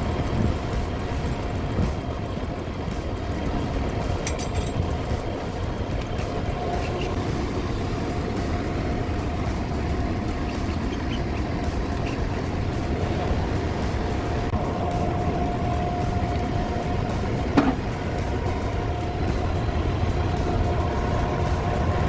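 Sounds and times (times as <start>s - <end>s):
exhaust fan rumbling: 0.0s - 22.0s.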